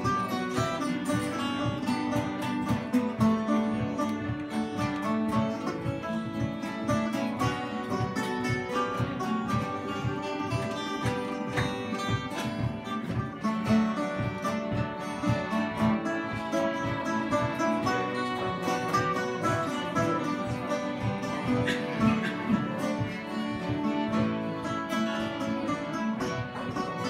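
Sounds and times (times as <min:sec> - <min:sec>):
fiddles playing a lively tune: 0:00.0 - 0:27.0
strummed acoustic guitar: 0:00.0 - 0:27.0.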